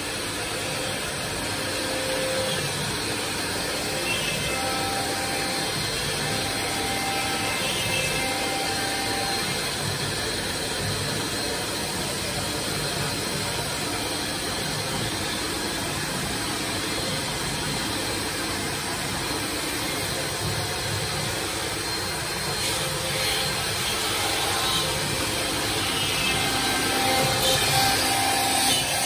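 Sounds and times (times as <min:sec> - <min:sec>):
high machine whine: 0:00.0 - 0:29.0
wood router running: 0:00.0 - 0:29.0.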